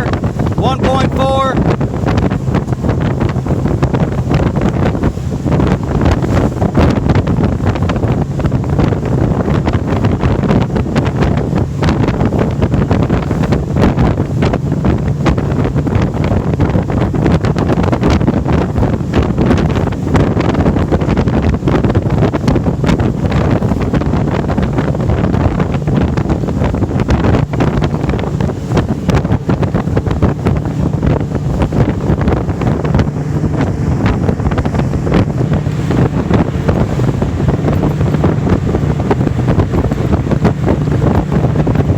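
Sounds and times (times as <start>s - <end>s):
outboard engines droning: 0.0s - 41.9s
rushing water: 0.0s - 41.9s
wind buffeting microphone: 0.0s - 41.9s.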